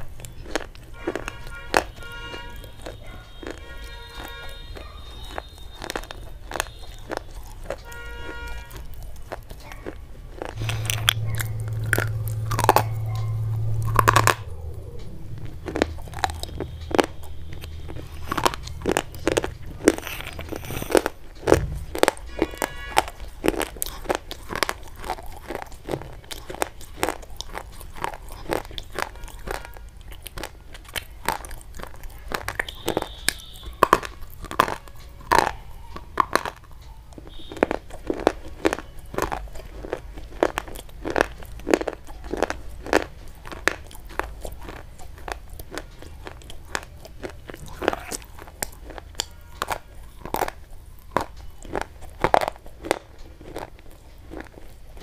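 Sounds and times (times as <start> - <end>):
chalk-like sticks crunching: 0.0 - 55.0.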